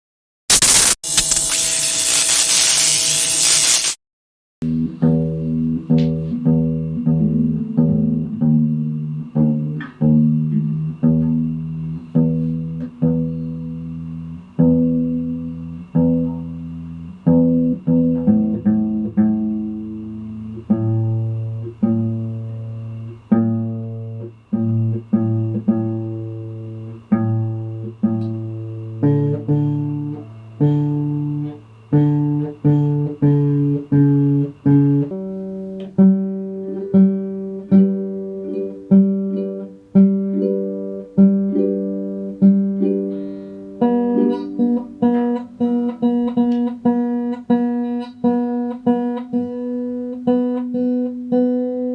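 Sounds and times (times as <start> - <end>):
guitar plucked notes and chords: 4.6 - 51.9.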